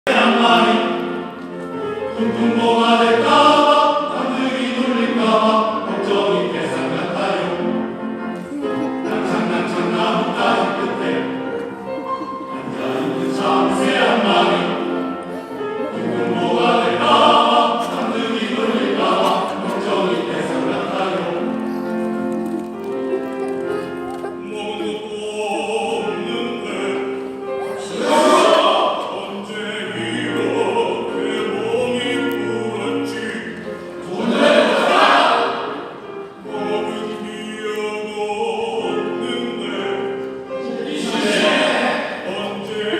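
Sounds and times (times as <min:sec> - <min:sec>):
men's choir singing: 0:00.1 - 0:42.9.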